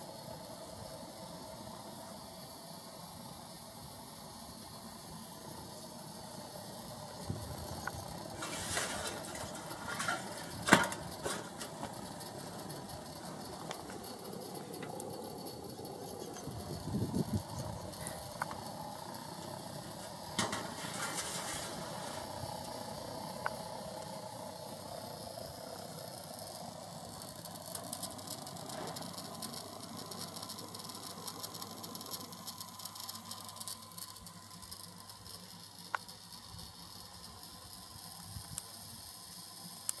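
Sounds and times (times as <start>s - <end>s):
steady gas rushing noise: 0.0s - 40.0s.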